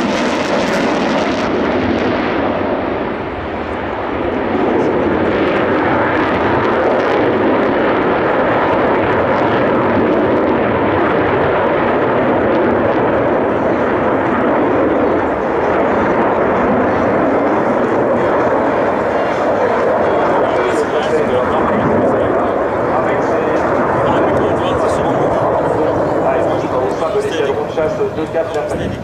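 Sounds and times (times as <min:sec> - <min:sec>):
jet engine rush: 0:00.0 - 0:29.0.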